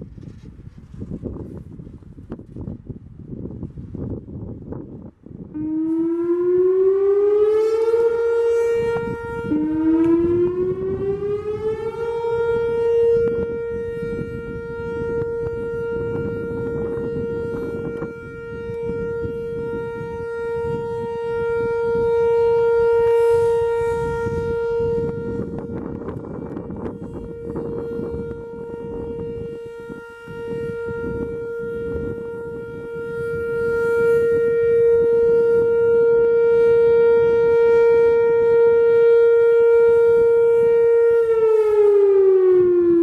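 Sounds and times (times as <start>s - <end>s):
buzzy electronic warning siren: 0.0s - 43.0s.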